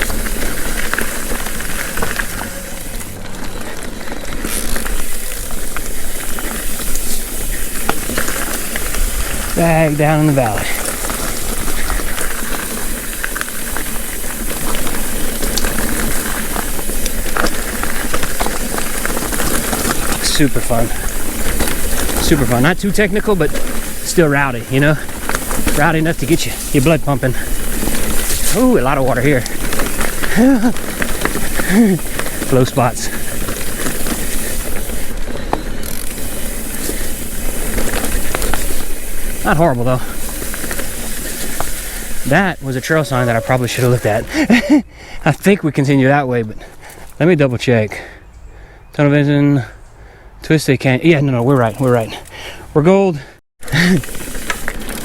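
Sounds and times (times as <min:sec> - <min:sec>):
bike tyres rolling on dirt: 0:00.0 - 0:49.9, 0:50.6 - 0:55.0.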